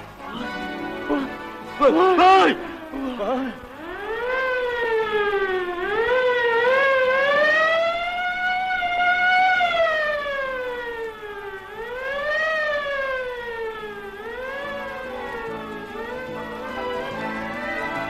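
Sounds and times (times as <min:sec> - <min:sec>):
fire engine siren wailing: 0:00.2 - 0:18.0.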